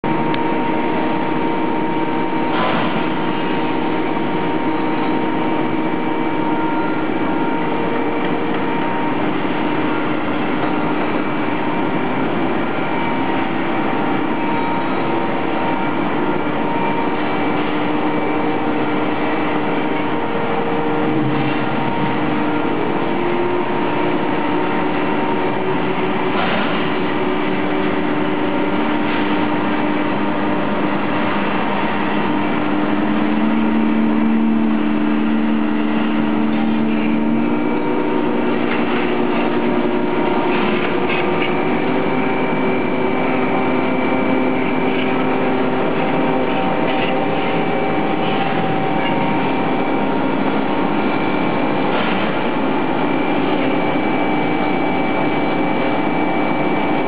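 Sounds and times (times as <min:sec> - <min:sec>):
mill machine humming: 0:00.0 - 0:57.0.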